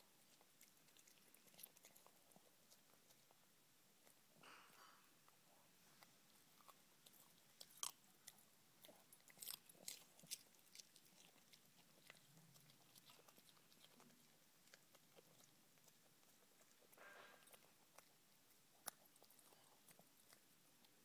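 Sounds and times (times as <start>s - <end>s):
puppy crunching carrot: 0.0s - 4.4s, 5.3s - 21.0s.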